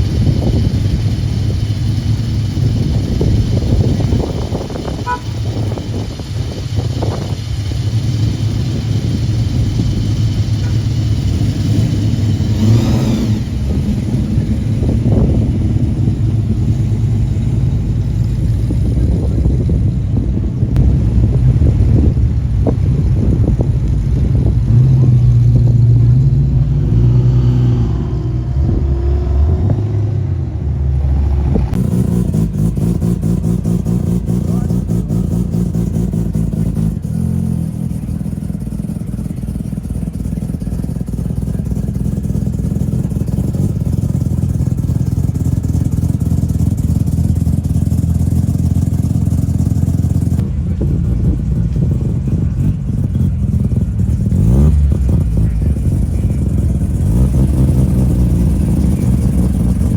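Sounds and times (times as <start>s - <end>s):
car engines idling and revving: 0.0s - 59.9s.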